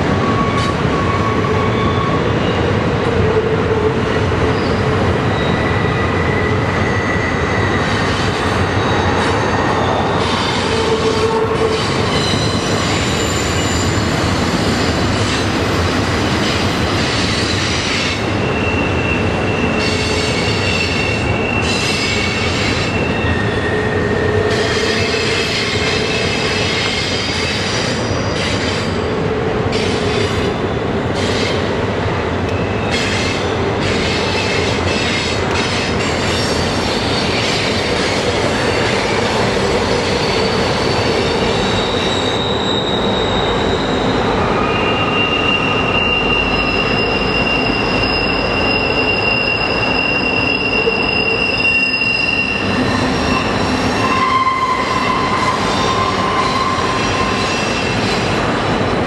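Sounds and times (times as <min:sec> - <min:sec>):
train wheels squealing: 0:00.0 - 0:31.7, 0:32.5 - 0:58.7.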